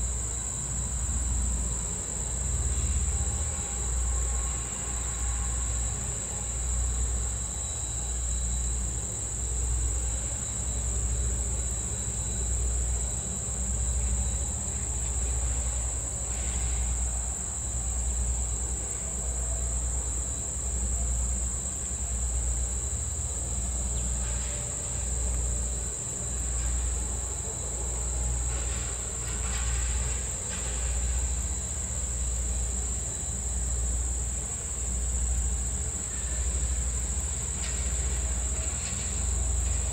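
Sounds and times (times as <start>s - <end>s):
insects buzzing: 0.0s - 39.9s
steam train low throb: 0.0s - 39.9s.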